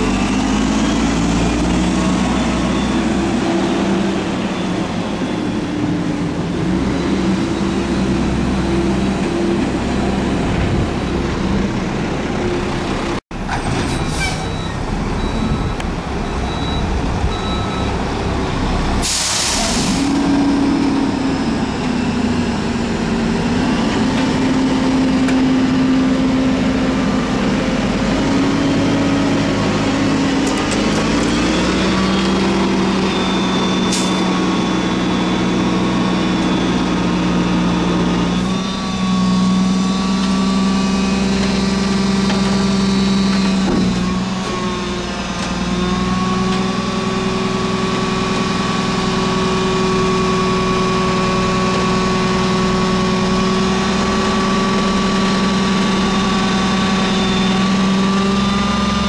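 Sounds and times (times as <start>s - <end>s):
garbage truck diesel engine droning: 0.0s - 59.0s.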